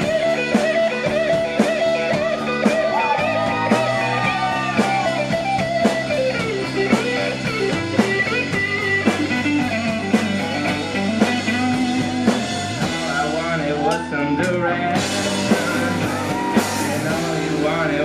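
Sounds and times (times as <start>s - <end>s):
bass notes: 0.0s - 18.0s
electric guitar lead line: 0.0s - 18.0s.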